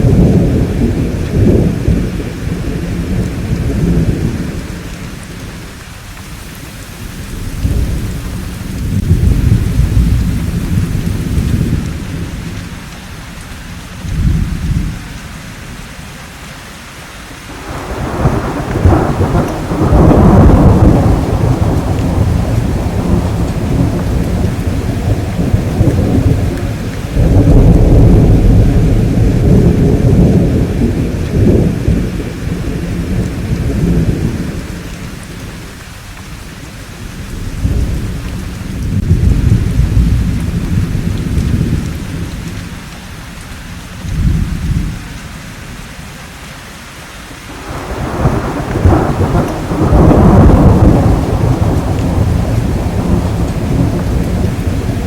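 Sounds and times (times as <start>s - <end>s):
thunder rumbling: 0.0s - 15.9s, 17.5s - 45.8s, 47.5s - 55.0s
steady rain: 0.0s - 55.0s.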